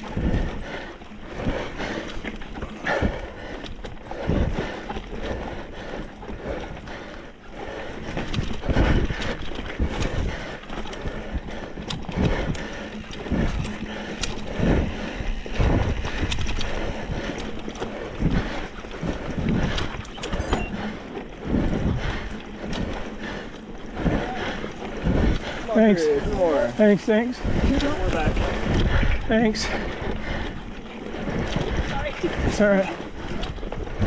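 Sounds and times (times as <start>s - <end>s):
bike frame rattles: 0.0s - 34.0s.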